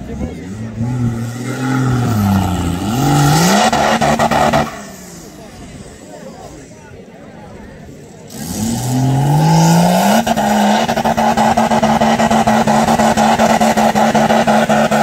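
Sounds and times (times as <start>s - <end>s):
off-road engine revving: 0.0s - 6.1s, 8.0s - 15.0s.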